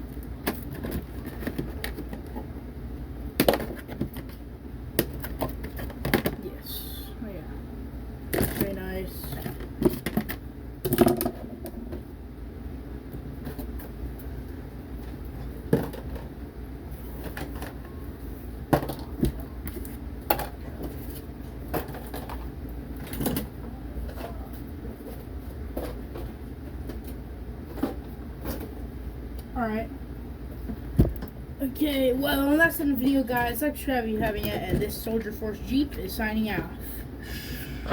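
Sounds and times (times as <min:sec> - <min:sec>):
low steady hum: 0:00.0 - 0:37.9.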